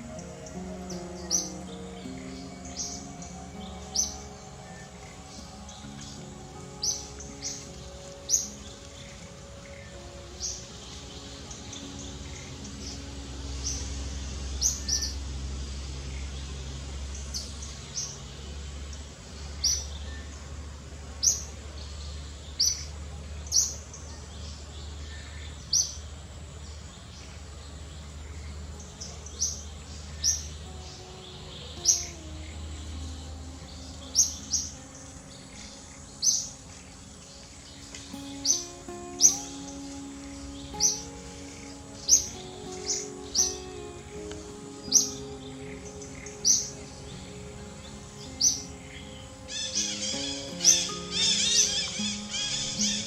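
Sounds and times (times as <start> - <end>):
bird chirping: 0.0 - 53.0
faint sustained tones: 0.0 - 53.0
low steady hum: 0.0 - 53.0.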